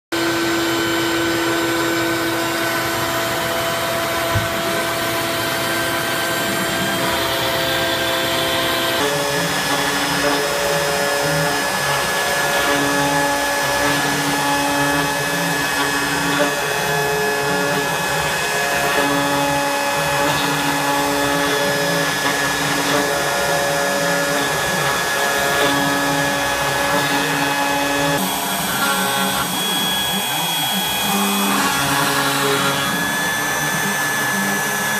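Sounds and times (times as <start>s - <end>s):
router spindle whine: 0.1s - 34.9s.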